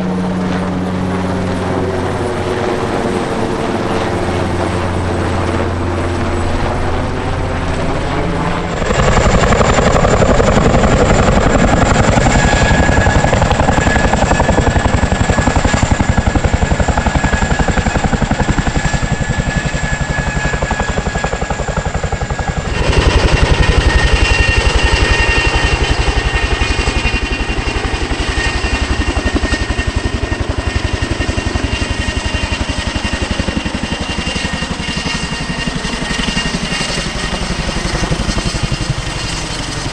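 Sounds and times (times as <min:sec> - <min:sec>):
helicopter rotor beating: 0:00.0 - 0:39.9
high turbine whine: 0:00.0 - 0:39.9.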